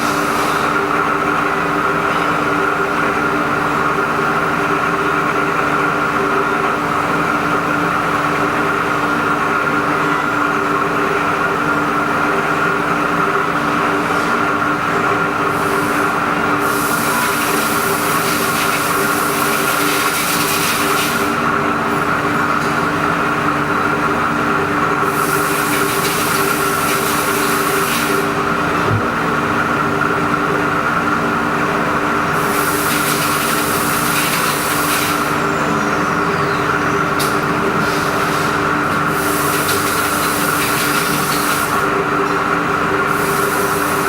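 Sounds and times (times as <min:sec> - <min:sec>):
machine hum with whine: 0:00.0 - 0:44.0.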